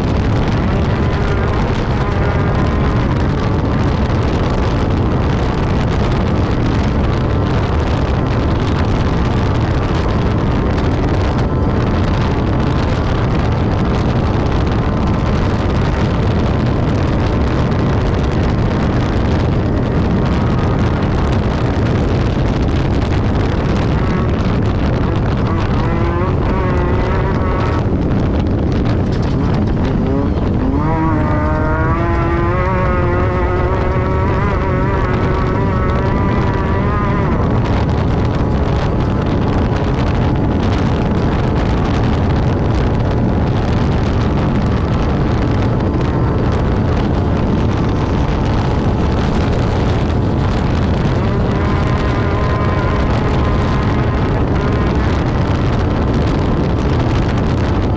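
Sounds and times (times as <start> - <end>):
buggy engine running hard: 0.0 - 57.9
wind noise: 0.0 - 57.9.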